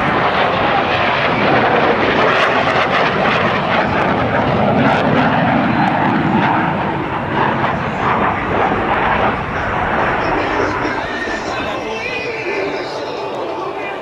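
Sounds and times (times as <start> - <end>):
jet flying past: 0.0 - 14.0.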